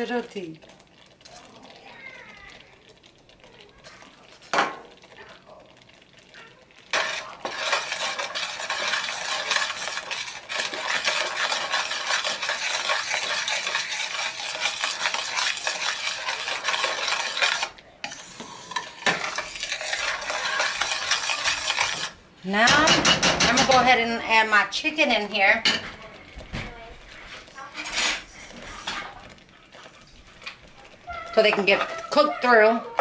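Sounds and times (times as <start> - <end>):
spoon stirring sauce in skillet: 0.0 - 33.0.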